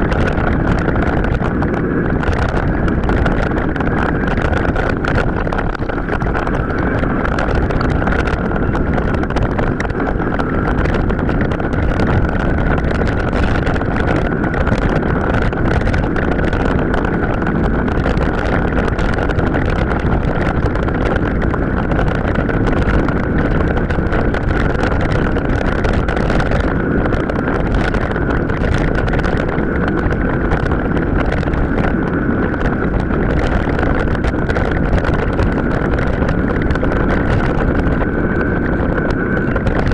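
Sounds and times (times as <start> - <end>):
bike tyre rumble: 0.0 - 39.9
high whine: 0.0 - 39.9
wind on microphone: 0.0 - 39.9.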